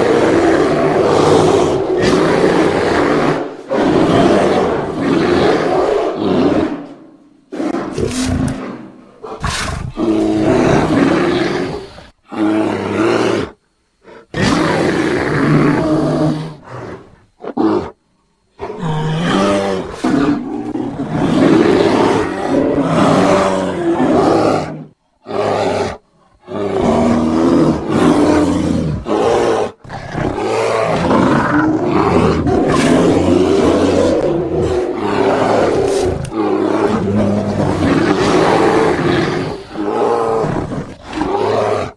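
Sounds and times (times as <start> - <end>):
bears roaring: 0.0 - 18.0, 18.6 - 41.9.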